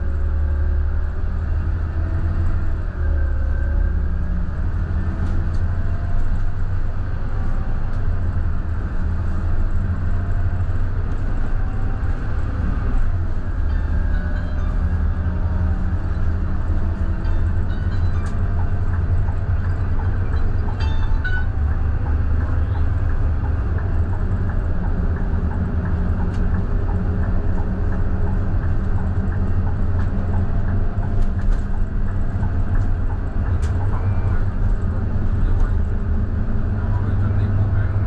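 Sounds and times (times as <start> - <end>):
bus diesel engine droning: 0.0 - 38.0
road noise: 0.0 - 38.0.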